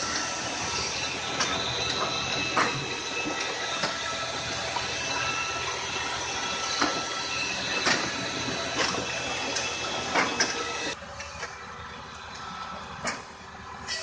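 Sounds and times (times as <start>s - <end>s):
firewood processor humming: 0.0s - 14.0s.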